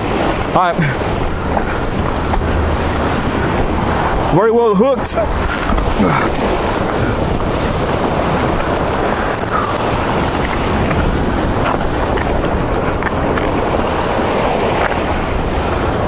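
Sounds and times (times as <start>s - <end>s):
surf washing against jetty: 0.0s - 16.0s
wind buffeting microphone: 0.0s - 16.0s.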